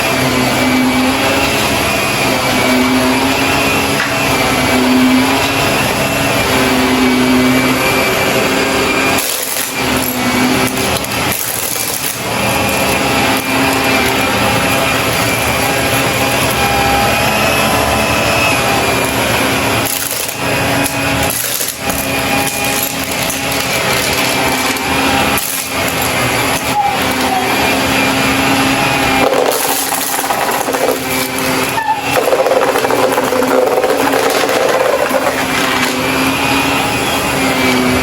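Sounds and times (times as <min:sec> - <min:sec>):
debris crunching in vacuum: 0:00.0 - 0:38.0
vacuum cleaner motor whine: 0:00.0 - 0:38.0.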